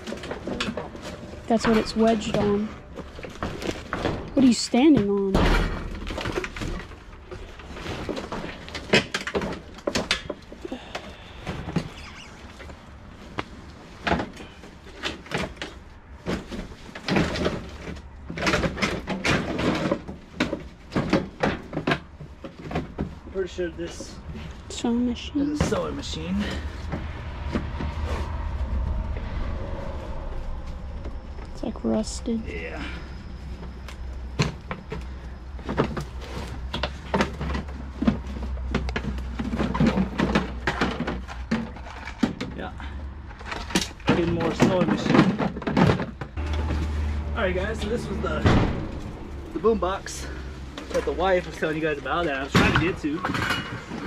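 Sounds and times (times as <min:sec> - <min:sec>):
clunks and knocks of objects: 0:00.0 - 0:24.9, 0:25.5 - 0:31.5, 0:32.9 - 0:54.0
items rustling: 0:00.0 - 0:54.0.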